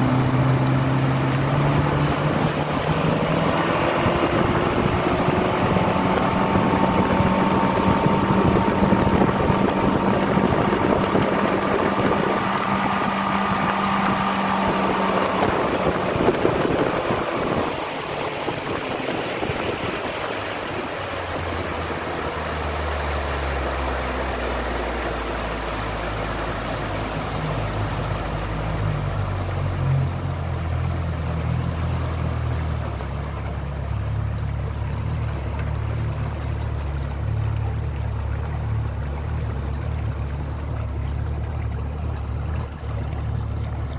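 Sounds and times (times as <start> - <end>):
outboard motor running: 0.0 - 43.9
water rushing and spraying: 0.0 - 43.9.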